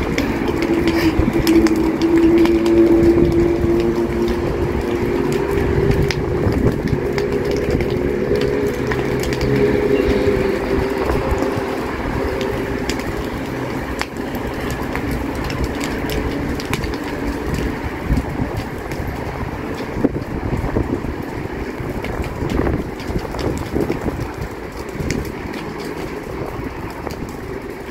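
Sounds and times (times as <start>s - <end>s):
dry brush burning crackling: 0.0s - 27.9s.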